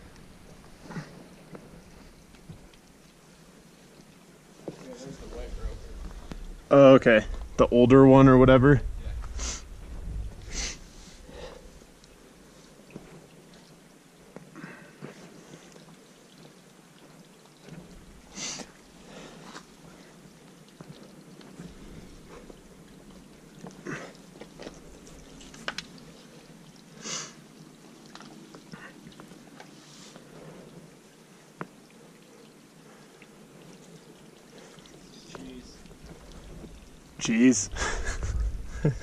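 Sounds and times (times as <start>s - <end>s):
low steady background hiss: 0.0s - 39.0s.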